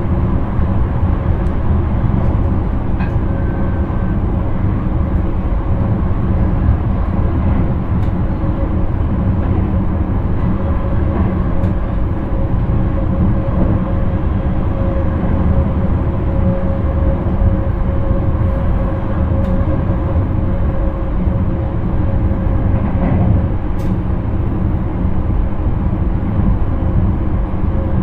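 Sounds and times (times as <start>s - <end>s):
steady whine: 0.0s - 28.0s
train wheels rumbling on track: 0.0s - 28.0s.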